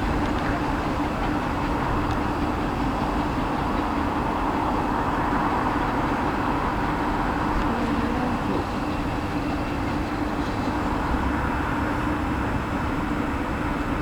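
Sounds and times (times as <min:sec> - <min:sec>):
steady hum: 0:00.0 - 0:12.3
train rumbling on rails: 0:00.0 - 0:14.0.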